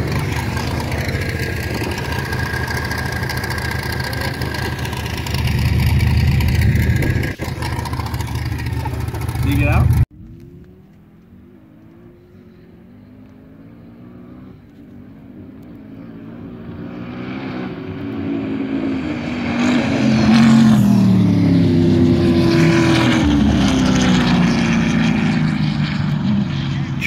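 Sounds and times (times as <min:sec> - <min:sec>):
dune buggy engines racing: 0:00.0 - 0:27.0.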